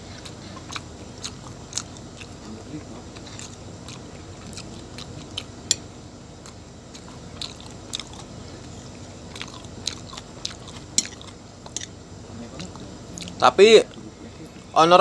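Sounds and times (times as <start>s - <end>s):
chewing: 0.0s - 5.8s, 6.4s - 14.0s.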